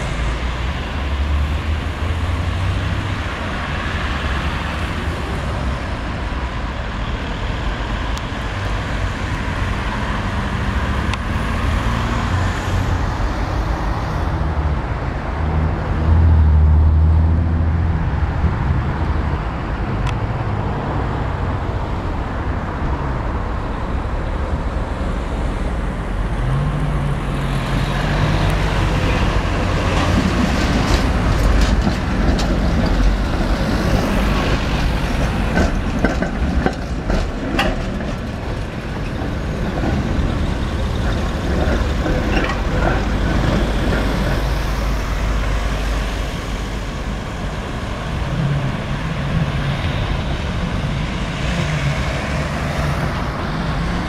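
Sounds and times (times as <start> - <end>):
road traffic hum: 0.0 - 54.0.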